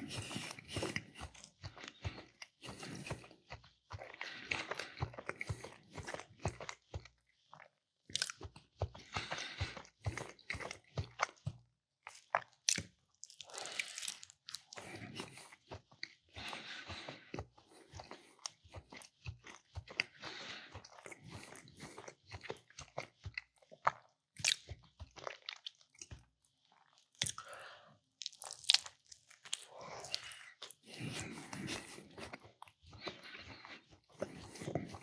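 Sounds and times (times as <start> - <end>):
person chewing and biting food: 0.0 - 35.0.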